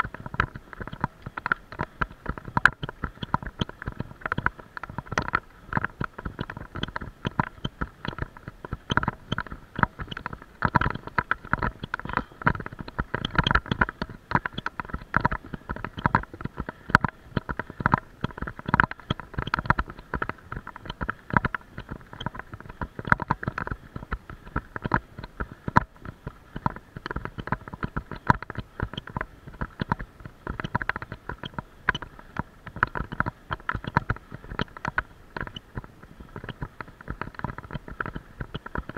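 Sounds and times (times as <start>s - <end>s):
camera rattling on bicycle: 0.0s - 38.9s.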